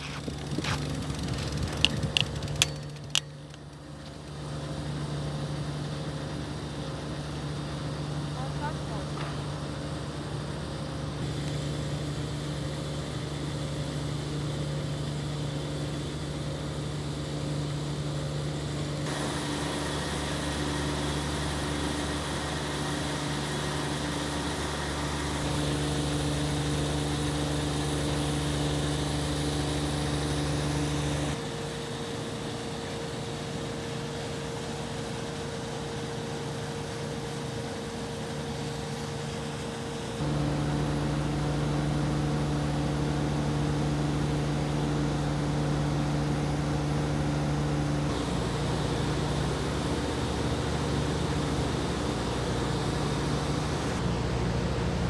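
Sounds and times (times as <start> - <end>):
engine humming: 0.0 - 31.5, 39.4 - 55.0.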